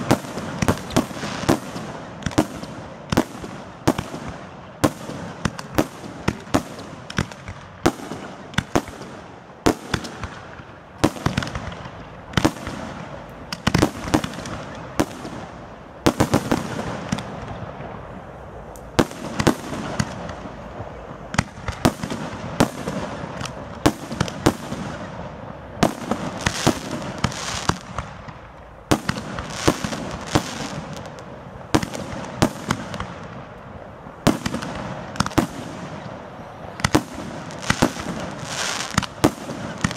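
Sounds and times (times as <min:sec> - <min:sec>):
fireworks bursting: 0:00.0 - 0:39.9
fireworks crackle and hiss: 0:00.0 - 0:39.9.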